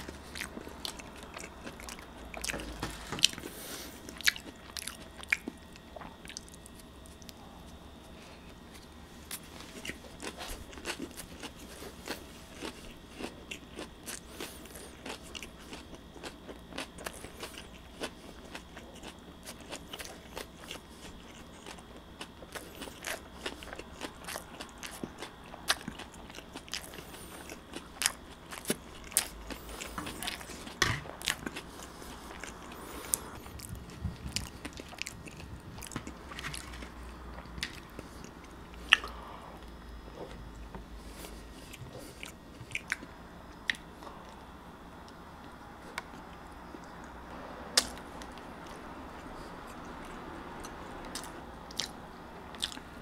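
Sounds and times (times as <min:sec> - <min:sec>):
chewing bread: 0:00.0 - 0:44.5, 0:47.8 - 0:53.0.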